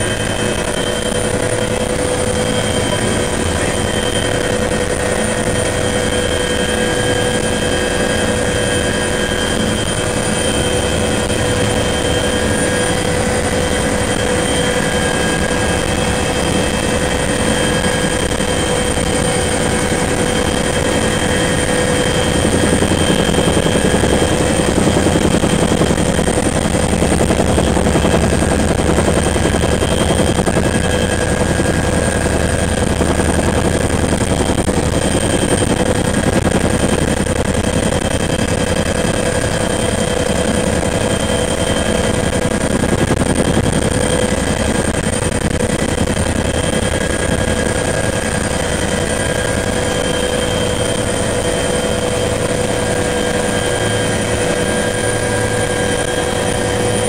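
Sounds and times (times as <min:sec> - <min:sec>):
helicopter engines whining: 0:00.0 - 0:57.0
helicopter rotor beating: 0:00.0 - 0:57.0.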